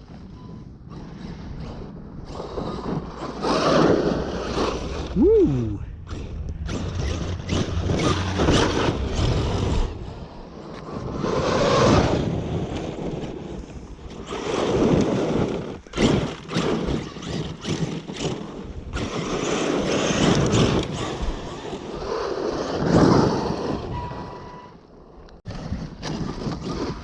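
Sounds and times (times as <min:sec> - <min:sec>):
wind noise on microphone: 0:00.0 - 0:24.7, 0:25.4 - 0:27.0
rc truck motor surging: 0:00.9 - 0:05.4, 0:06.0 - 0:24.6.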